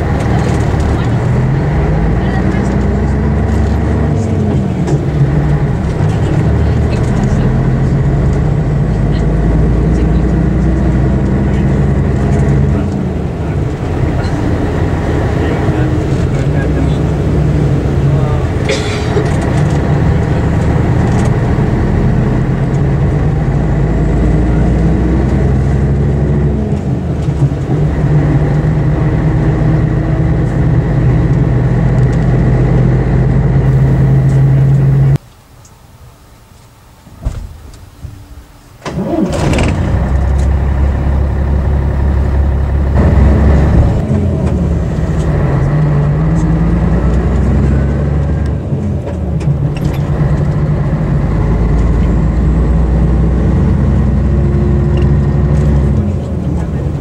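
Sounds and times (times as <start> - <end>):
bus diesel engine revving: 0.0 - 35.2, 38.7 - 57.0.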